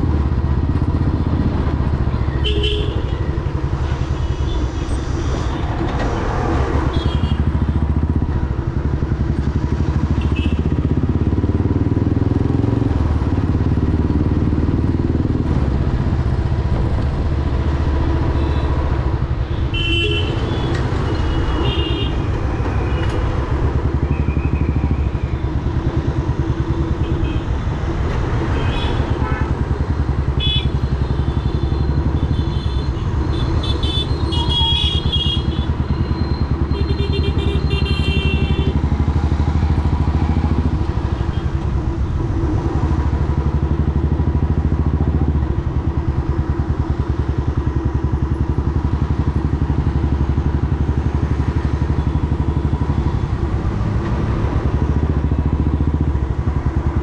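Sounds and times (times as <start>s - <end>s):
motorcycle engine running: 0.0s - 4.8s, 6.8s - 57.0s.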